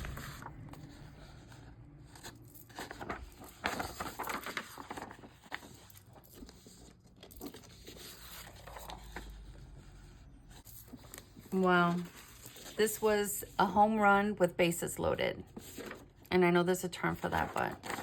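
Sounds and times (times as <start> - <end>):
paper rustling and crinkling: 0.0 - 13.5, 15.4 - 16.3, 17.0 - 18.0.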